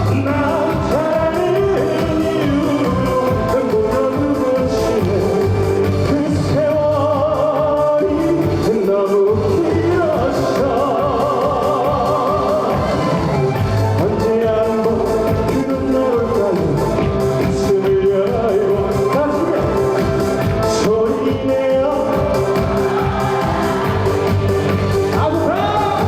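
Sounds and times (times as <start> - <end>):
trot song with band: 0.0 - 26.0.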